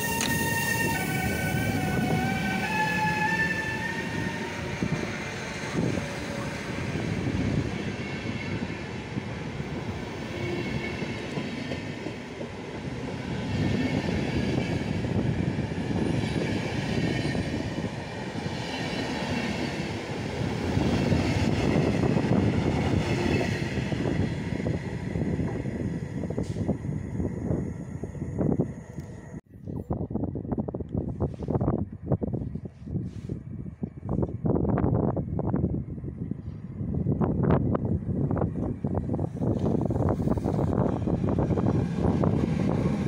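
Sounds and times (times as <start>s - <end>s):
train wheels rolling on rails: 0.0s - 29.4s, 37.2s - 43.0s
electric locomotive whine: 0.0s - 30.9s, 34.1s - 43.0s.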